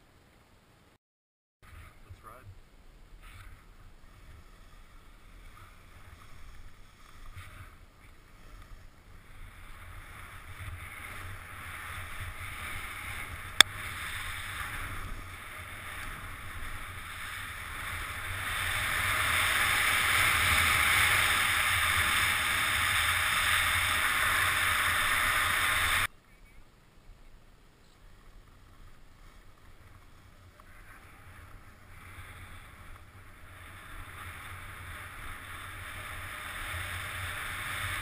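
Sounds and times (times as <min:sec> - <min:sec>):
snowboard scraping over snow: 0:03.1 - 0:26.1, 0:28.0 - 0:38.0.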